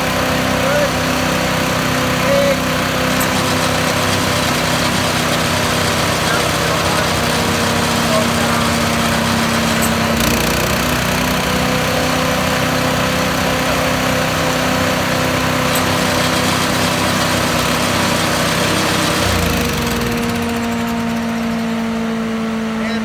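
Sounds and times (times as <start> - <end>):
engine running on chipper shredder: 0.0 - 23.0.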